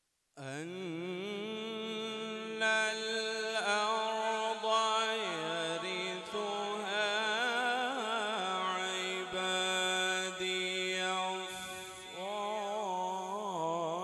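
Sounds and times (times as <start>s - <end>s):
man reciting melodically into microphone: 0.4s - 14.0s.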